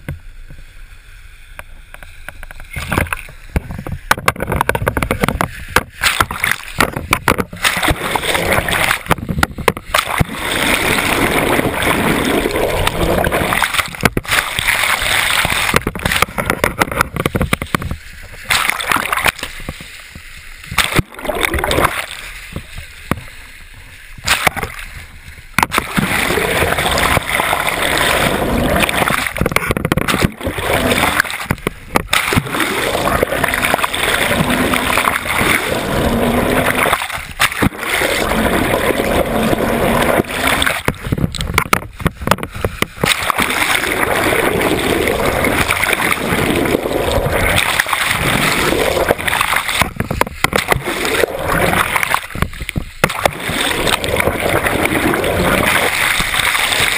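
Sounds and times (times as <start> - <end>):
sea water splashing: 1.4 - 56.9.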